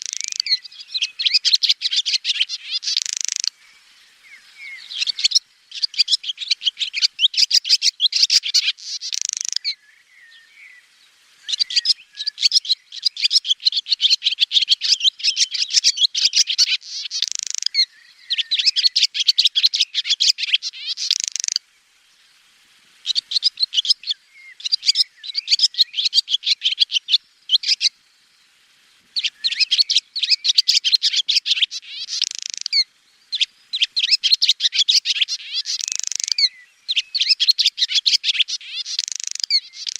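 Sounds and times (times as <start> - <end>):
swallow twittering: 0.0 - 21.6, 23.0 - 28.4, 29.2 - 39.9.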